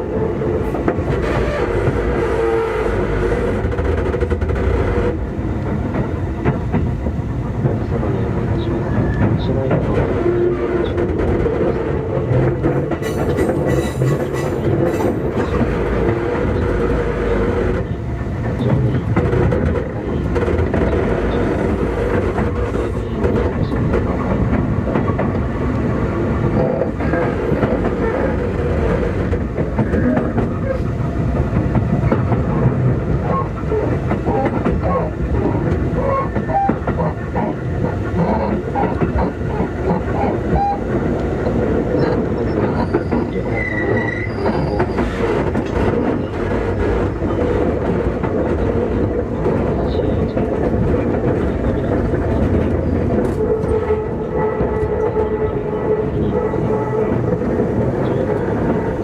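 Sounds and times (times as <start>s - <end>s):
train rumble and motor hum: 0.0s - 59.0s
wheels clacking over rail joints: 0.0s - 59.0s.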